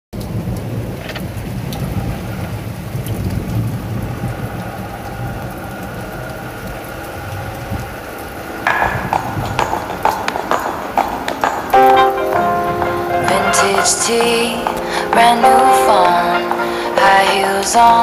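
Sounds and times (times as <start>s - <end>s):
rain hissing: 0.2s - 18.0s
raindrops ticking: 0.2s - 18.0s.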